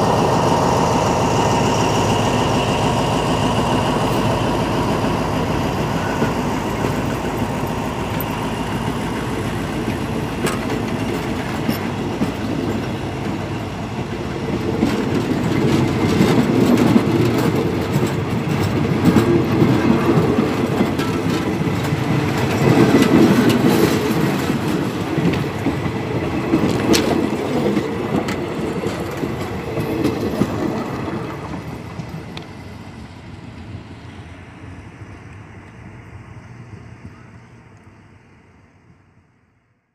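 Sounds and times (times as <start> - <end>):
train wheels clicking on rails: 0.0 - 39.4.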